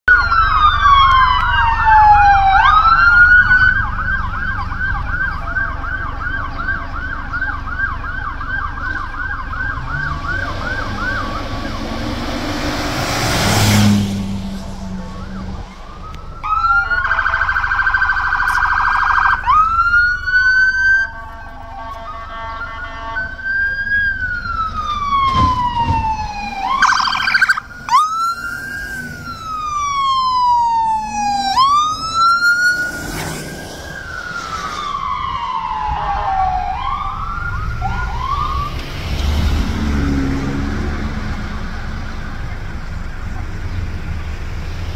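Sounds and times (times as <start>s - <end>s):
emergency sirens wailing and yelping: 0.0s - 44.9s.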